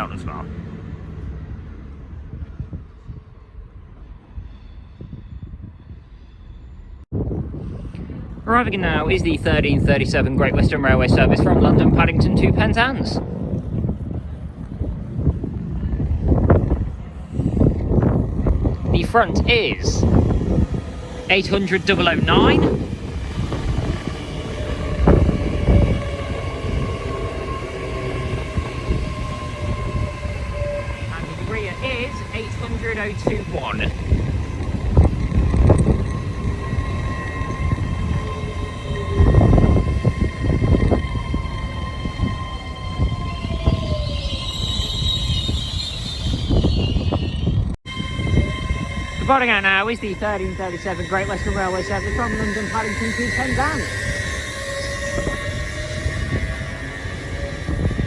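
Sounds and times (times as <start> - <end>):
diesel train rumble: 0.0 - 58.0.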